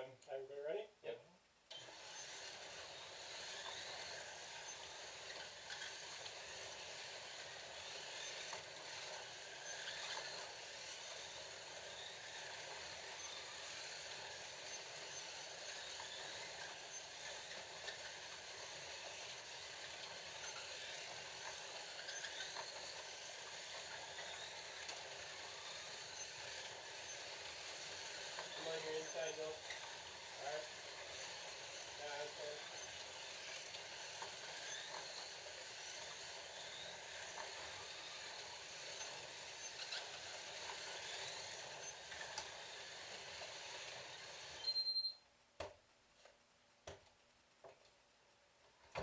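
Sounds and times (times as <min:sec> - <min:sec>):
slot car motors whining: 0:01.7 - 0:45.1.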